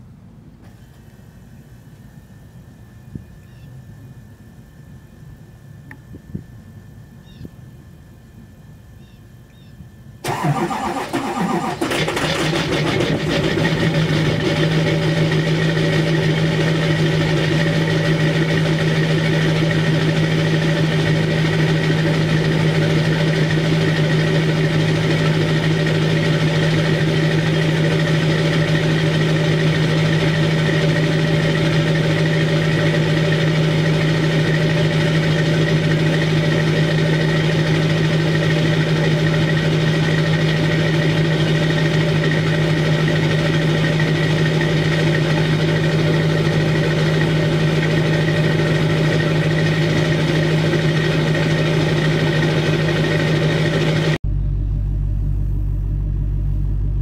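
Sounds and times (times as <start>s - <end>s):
diesel engine idling: 10.2s - 57.0s.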